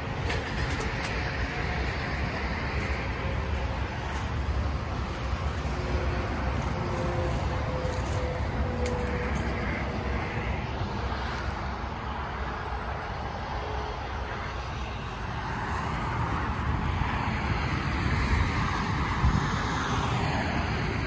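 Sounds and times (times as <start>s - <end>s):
diesel machinery rumbling: 0.0s - 21.0s.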